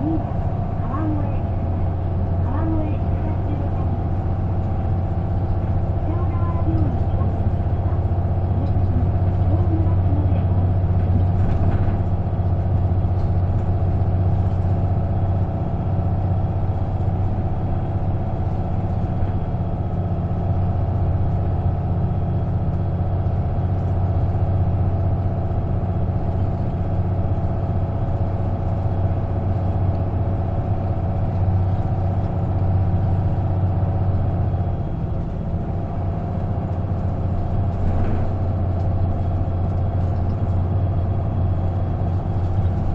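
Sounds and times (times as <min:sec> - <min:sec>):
bus diesel engine humming: 0:00.0 - 0:42.9.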